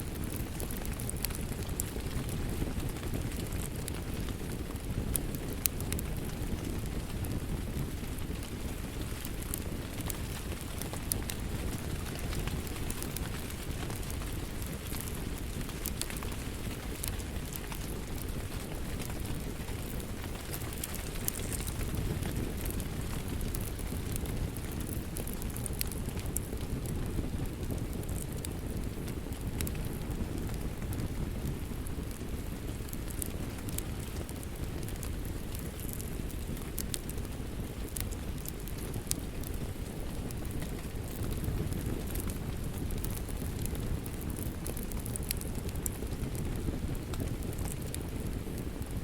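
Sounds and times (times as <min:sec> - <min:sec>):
fire crackling in fireplace: 0:00.0 - 0:49.0.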